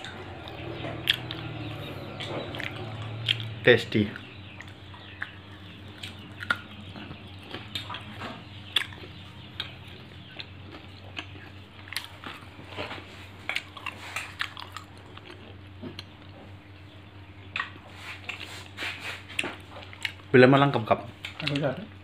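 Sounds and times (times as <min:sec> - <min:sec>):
person chewing food: 0:00.0 - 0:16.8, 0:17.4 - 0:20.3
steady low hum: 0:00.0 - 0:22.0.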